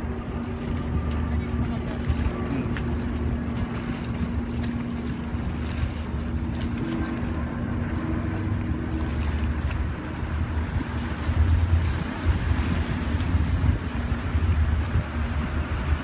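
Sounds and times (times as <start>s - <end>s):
boat engine drone: 0.0s - 16.0s
water wash: 0.0s - 16.0s
wind on microphone: 0.0s - 16.0s.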